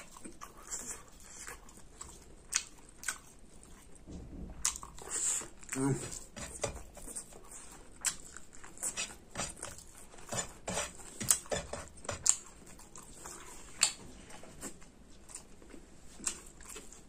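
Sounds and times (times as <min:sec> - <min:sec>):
wet chewing and lip smacks: 0:00.0 - 0:04.0, 0:04.6 - 0:10.2, 0:12.1 - 0:17.0.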